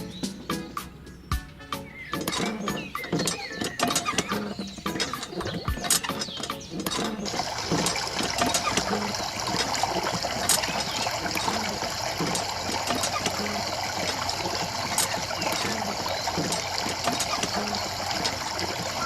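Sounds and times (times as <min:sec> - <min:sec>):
water trickling: 0:02.0 - 0:19.0.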